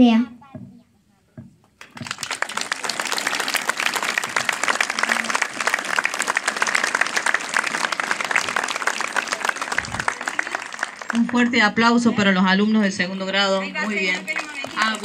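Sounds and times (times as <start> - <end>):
crowd applauding: 1.8 - 12.1, 13.1 - 15.0.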